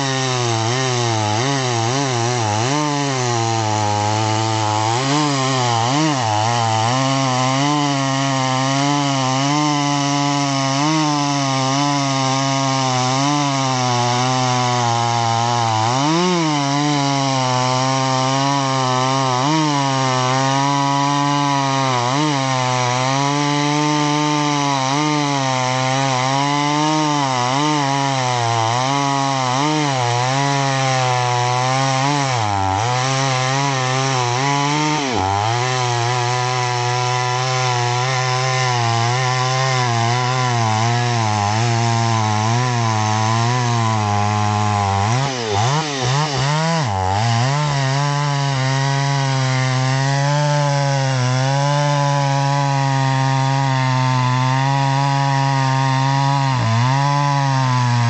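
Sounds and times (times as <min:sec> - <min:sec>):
chainsaw cutting through log: 0:00.0 - 0:58.0.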